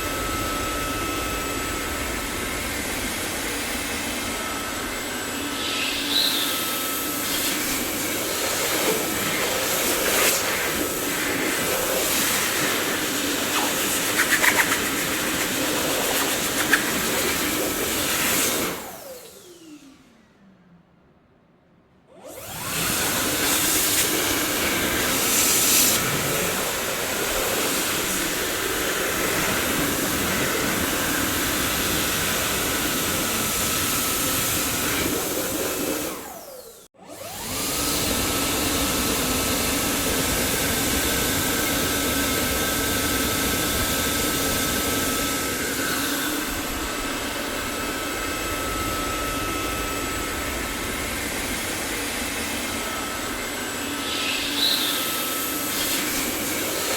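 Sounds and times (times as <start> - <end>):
vacuum cleaner rushing and whining: 0.0 - 20.4, 22.1 - 56.9.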